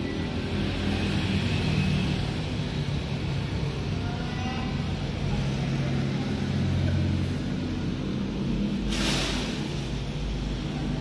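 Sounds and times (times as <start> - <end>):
air conditioner humming noisily: 0.0 - 11.0.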